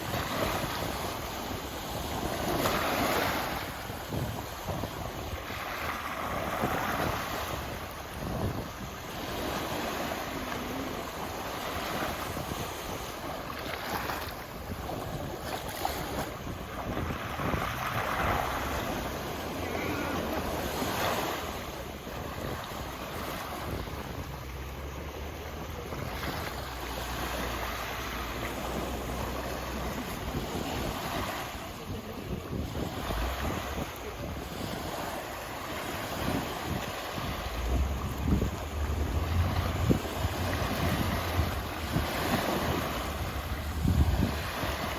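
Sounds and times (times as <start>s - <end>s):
sea waves washing onto shore: 0.0s - 44.9s
wind buffeting microphone: 0.0s - 44.9s.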